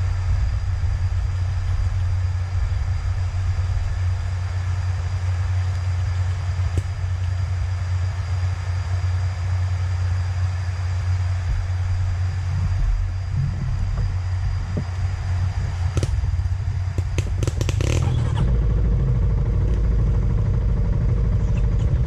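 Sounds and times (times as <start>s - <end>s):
faint high whine: 0.0s - 22.0s
vehicle rumbling: 0.0s - 22.0s.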